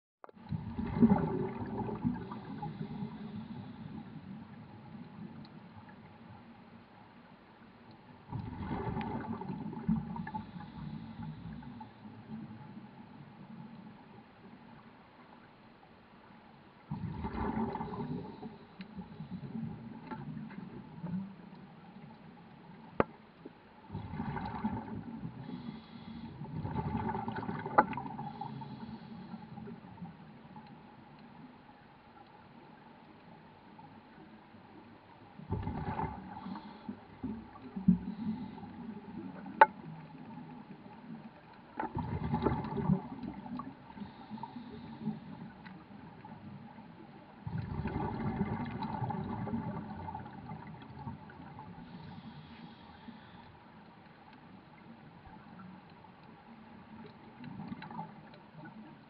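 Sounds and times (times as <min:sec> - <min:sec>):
underwater exhaled bubbles: 0:00.2 - 0:06.4, 0:08.2 - 0:14.1, 0:16.9 - 0:23.1, 0:23.8 - 0:30.9, 0:33.7 - 0:53.4, 0:54.4 - 0:59.0.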